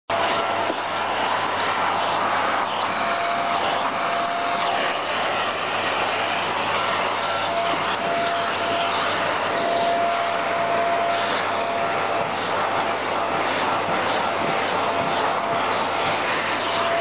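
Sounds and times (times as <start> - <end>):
vacuum cleaner running: 0.1 - 17.0.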